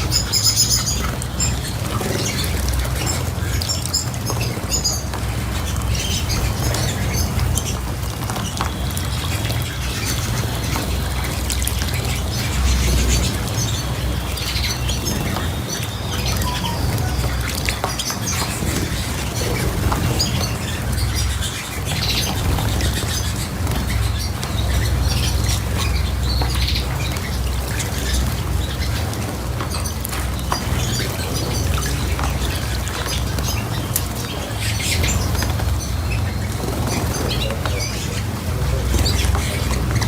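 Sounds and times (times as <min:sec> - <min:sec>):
cage birds chirping: 0:00.0 - 0:40.0.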